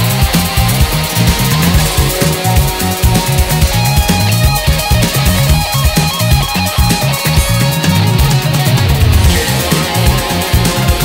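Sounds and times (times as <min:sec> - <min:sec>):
music with heavy drum beat: 0:00.0 - 0:11.0.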